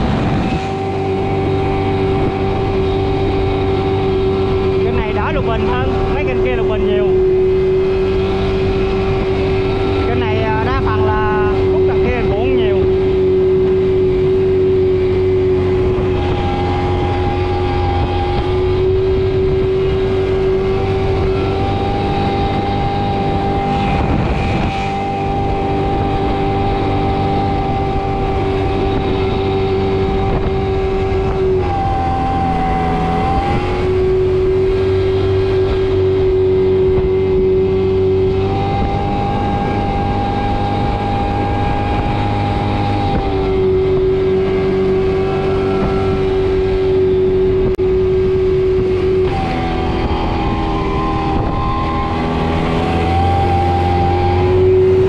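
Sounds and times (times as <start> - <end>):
motorbike engine running: 0.0 - 55.0.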